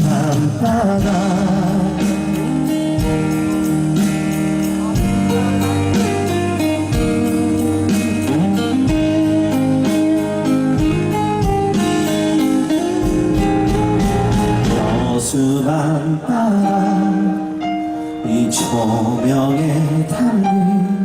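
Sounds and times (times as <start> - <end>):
guitar melody: 0.0 - 21.0
live band playing: 0.0 - 21.0.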